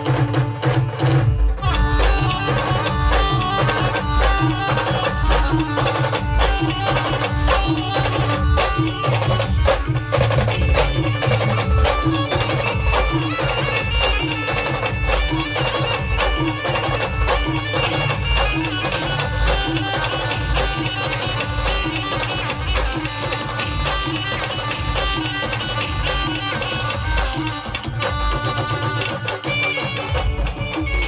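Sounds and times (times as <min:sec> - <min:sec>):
fast drum beat: 0:00.0 - 0:31.0.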